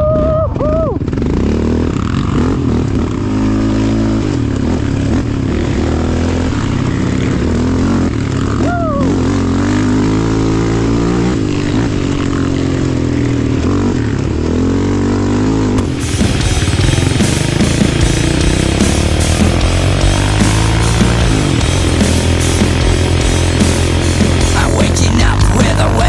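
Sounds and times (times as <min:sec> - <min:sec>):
off-road engines revving: 0:00.6 - 0:26.0.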